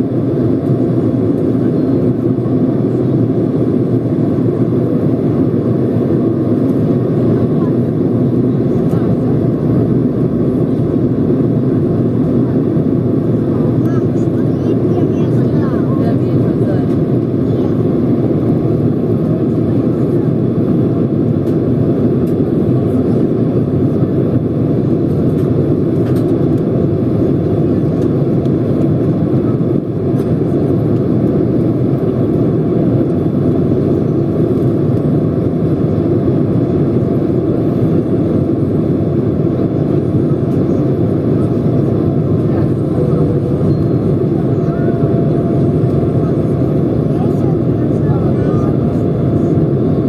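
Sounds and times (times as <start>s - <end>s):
airplane cabin engine rumble: 0.0s - 50.0s.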